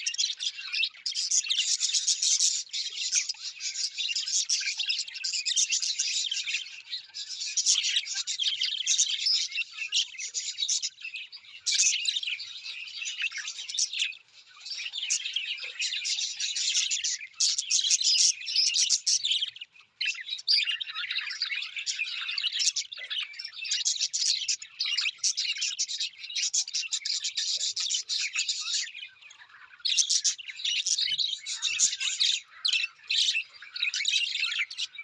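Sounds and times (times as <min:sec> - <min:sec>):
birds chirping and twittering: 0:00.0 - 0:35.0.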